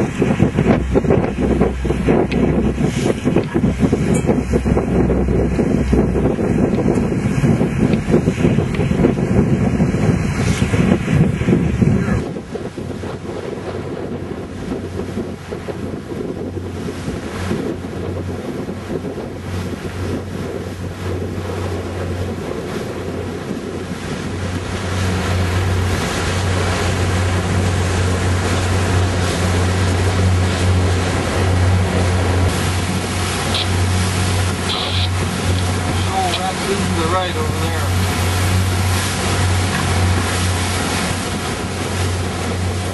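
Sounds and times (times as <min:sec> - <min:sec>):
boat engine running: 0:00.0 - 0:42.9
water rushing: 0:00.0 - 0:42.9
wind buffeting microphone: 0:00.0 - 0:42.9.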